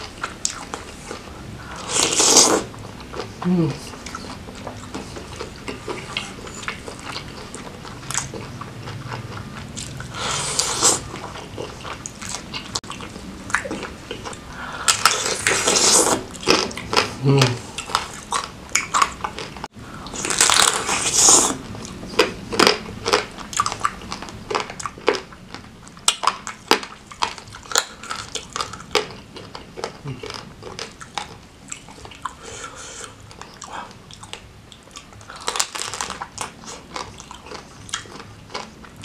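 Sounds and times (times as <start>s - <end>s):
person biting and chewing food: 0.0s - 39.0s.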